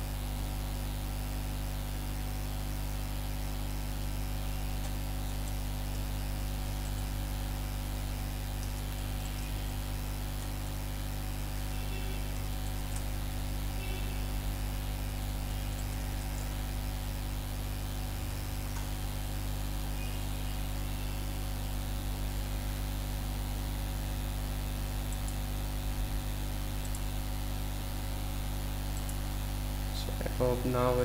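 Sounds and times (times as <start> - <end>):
electrical hum with hiss: 0.0 - 31.0.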